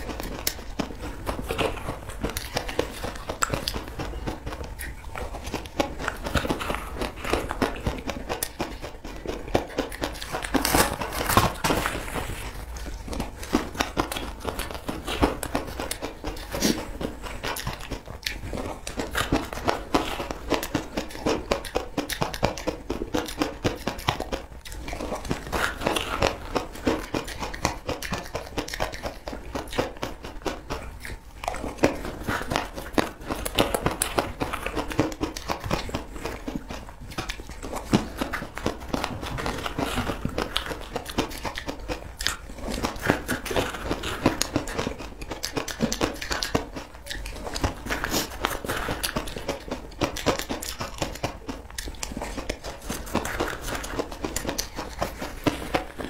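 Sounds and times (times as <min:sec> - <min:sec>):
chewing and crunching ice: 0:00.0 - 0:56.0.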